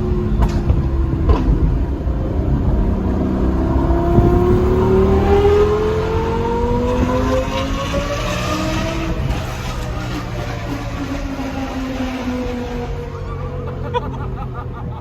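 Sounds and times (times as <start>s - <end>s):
sports car engine revving: 0.0s - 14.0s.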